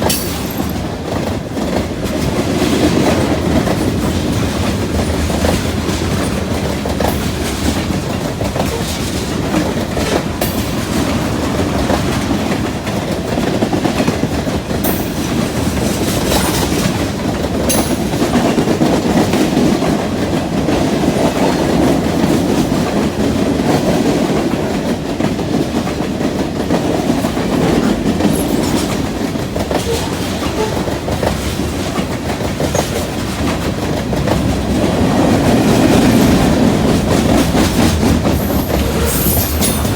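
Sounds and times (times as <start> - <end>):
freight train cars rumbling: 0.0 - 39.9
wheels clicking over rail joints: 0.0 - 39.9.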